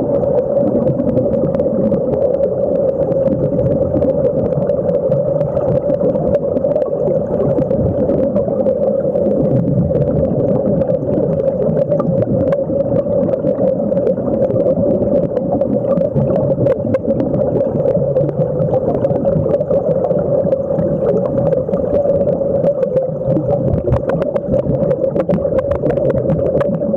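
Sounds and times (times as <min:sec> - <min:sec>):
underwater air bubbling: 0:00.0 - 0:26.9
small crackles: 0:00.1 - 0:26.9.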